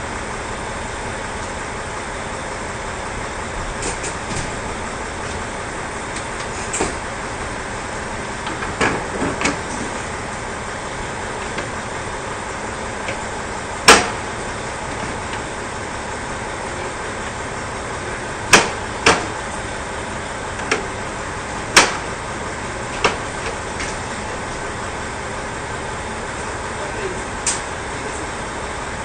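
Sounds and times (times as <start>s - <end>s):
diesel railcars idling: 0.0s - 29.0s.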